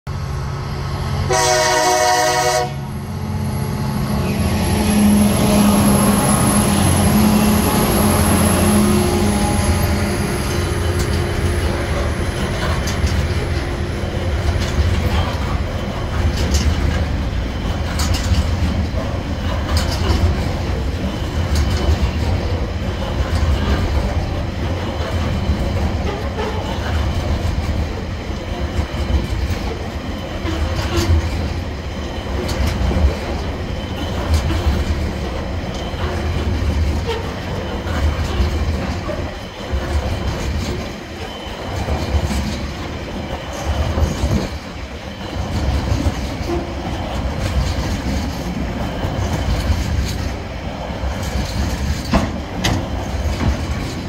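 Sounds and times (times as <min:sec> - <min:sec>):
diesel locomotive engine drone: 0:00.1 - 0:54.0
wheels clacking over rail joints: 0:04.9 - 0:54.0.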